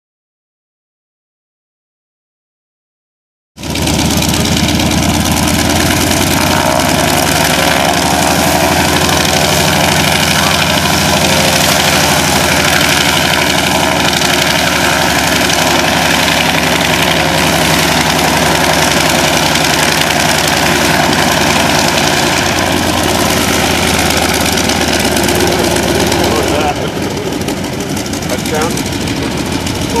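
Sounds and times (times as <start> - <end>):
radial aircraft engine idling: 3.6 - 30.0.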